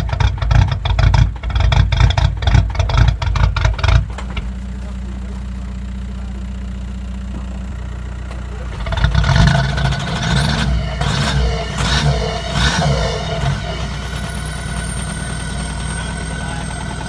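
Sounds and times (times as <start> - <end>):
diesel engine idling and revving: 0.0 - 17.0.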